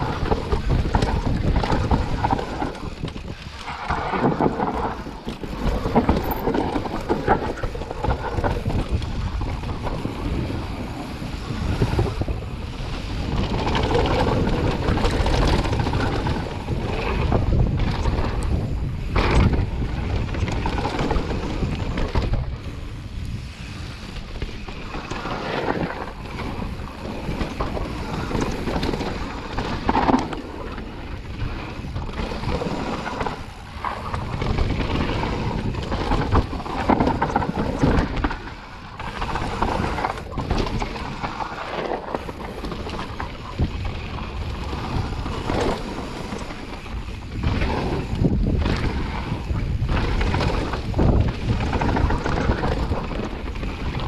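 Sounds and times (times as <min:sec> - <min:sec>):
tyres rumbling on dirt: 0:00.0 - 0:54.0
wind buffeting microphone: 0:00.0 - 0:54.0.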